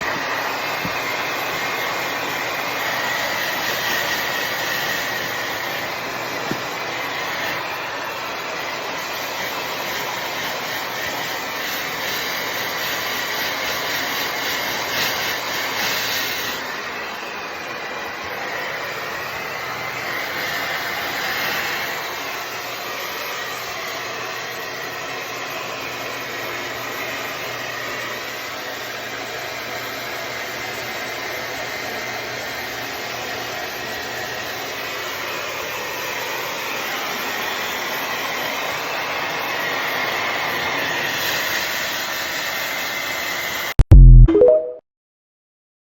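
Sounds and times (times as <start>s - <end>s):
hair dryer blowing: 0.0s - 43.8s.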